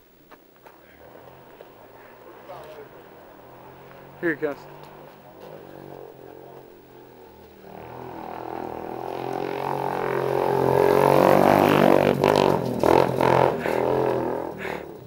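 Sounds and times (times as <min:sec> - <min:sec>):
engine exhaust droning through hose: 0:00.7 - 0:15.0.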